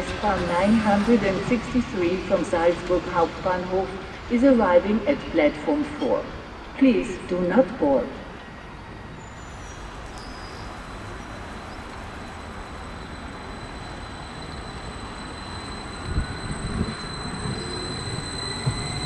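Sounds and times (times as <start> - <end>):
electric train running whine: 0.0 - 19.0.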